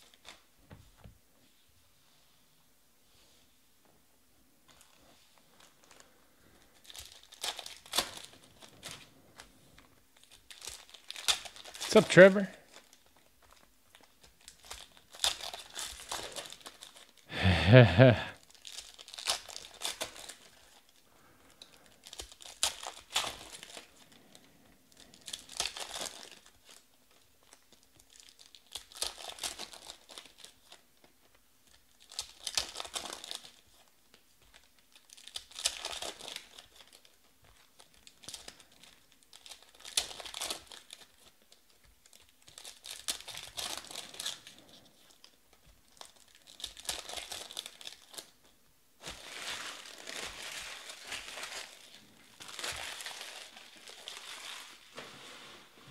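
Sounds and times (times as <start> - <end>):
card pack wrappers crinkling and tearing: 4.7 - 17.3, 18.4 - 55.5.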